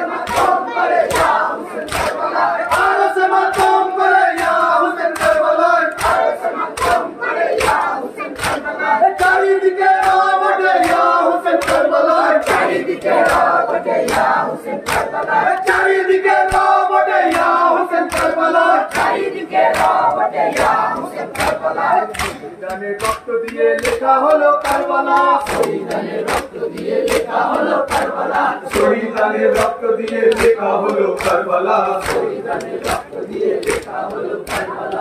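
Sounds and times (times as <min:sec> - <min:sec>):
men chanting in unison: 0:00.0 - 0:35.0
hands slapping chests: 0:00.2 - 0:35.0.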